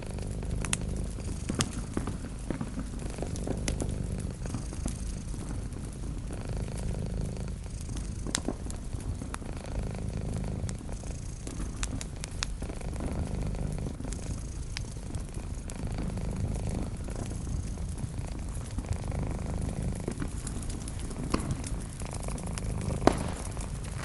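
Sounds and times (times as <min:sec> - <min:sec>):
cat purring: 0:00.0 - 0:24.0
wood fire crackling: 0:00.0 - 0:24.0.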